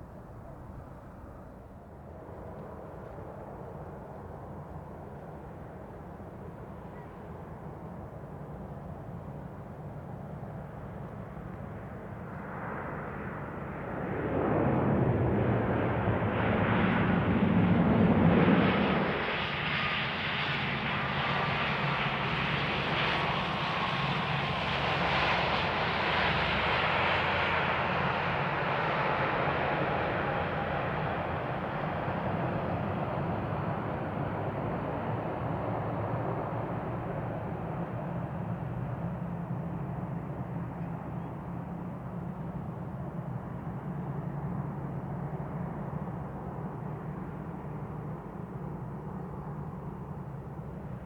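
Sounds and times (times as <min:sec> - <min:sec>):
jet engines roaring at takeoff: 0:09.2 - 0:51.0.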